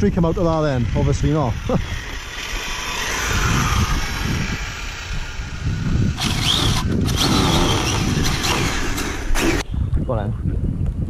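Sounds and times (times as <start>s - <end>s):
low rumble: 0.0s - 10.9s
electric motor whining: 0.1s - 9.7s.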